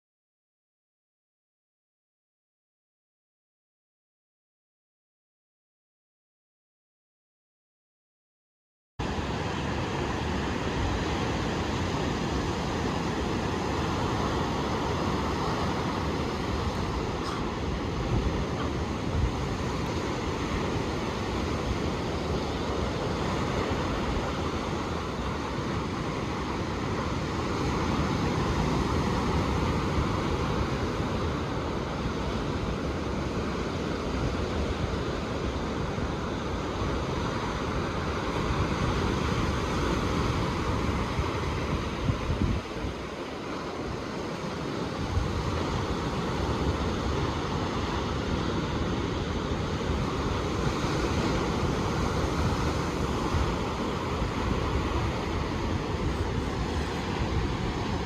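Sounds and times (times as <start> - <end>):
ocean surf washing: 9.0 - 58.0
wind rumbling on microphone: 9.0 - 58.0.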